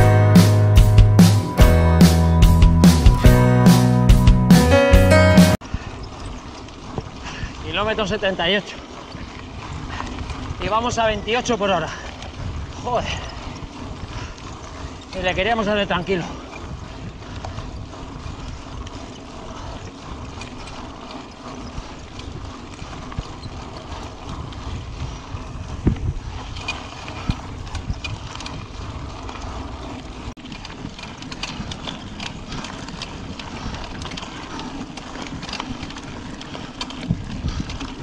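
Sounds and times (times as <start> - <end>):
bike frame clicking and rattling: 5.6 - 38.0
bike tyres crunching on gravel: 5.6 - 38.0
wind buffeting microphone: 5.6 - 38.0.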